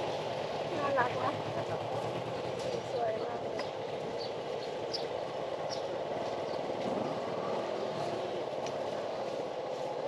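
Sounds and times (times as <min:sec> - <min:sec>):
city traffic hum: 0:00.0 - 0:10.0.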